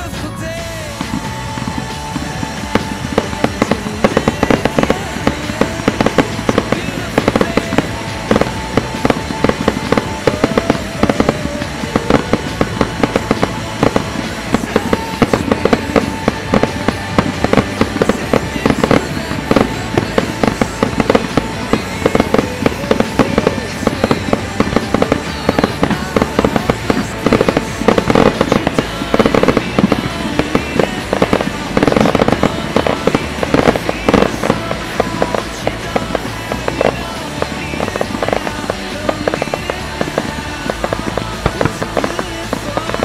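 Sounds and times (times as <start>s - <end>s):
fireworks bangs: 0.0s - 43.0s
music playing: 0.0s - 43.0s.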